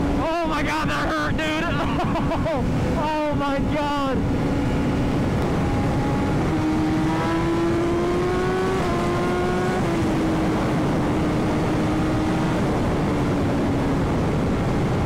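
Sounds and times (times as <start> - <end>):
motorcycle engine at speed: 0.0 - 15.0
wind rush: 0.0 - 15.0.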